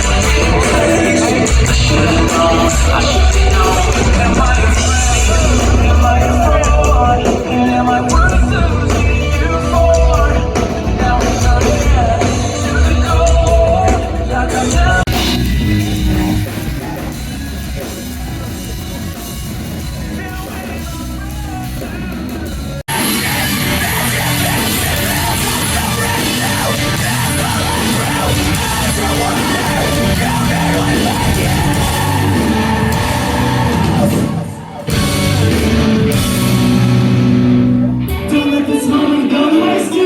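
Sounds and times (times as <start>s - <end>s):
live rock band playing: 0.0s - 40.0s
sung and yelled vocals: 0.0s - 40.0s.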